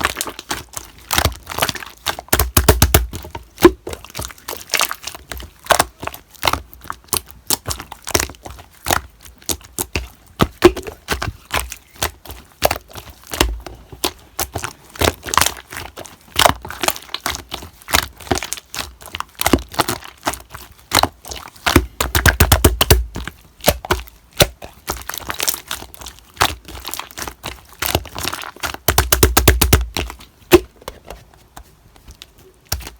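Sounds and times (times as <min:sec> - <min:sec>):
slime sticky pops and crackles: 0:00.0 - 0:30.7.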